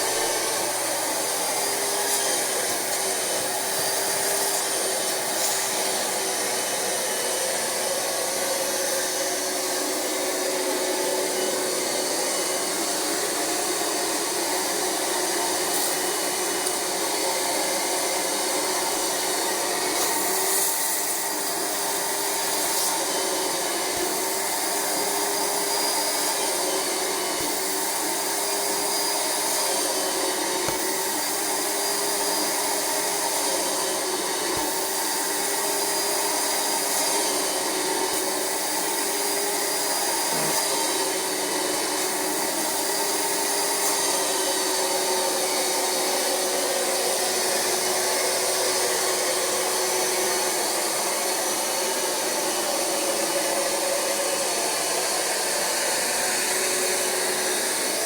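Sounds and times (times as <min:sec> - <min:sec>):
carpet cleaner suction motor whine: 0:00.0 - 0:58.0.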